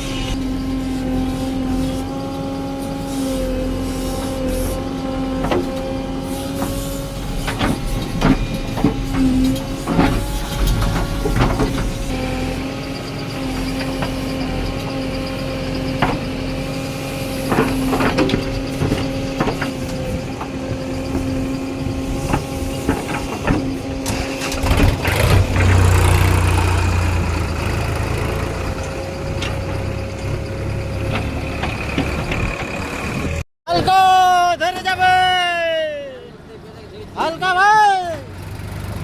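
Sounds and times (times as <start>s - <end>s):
backhoe engine and hydraulics humming: 0.0s - 39.0s.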